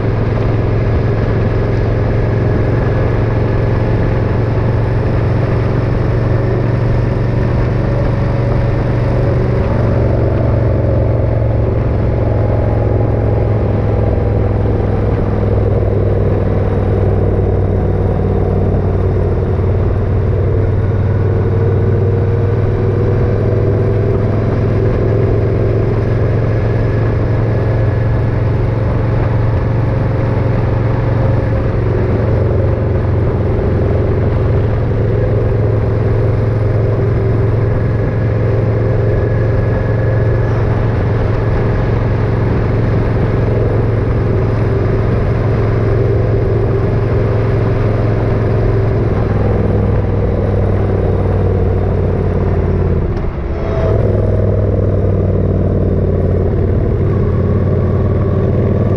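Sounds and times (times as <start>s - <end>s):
motorcycle engine cruising: 0.0s - 58.9s
road noise: 0.0s - 58.9s
wind noise: 0.0s - 58.9s.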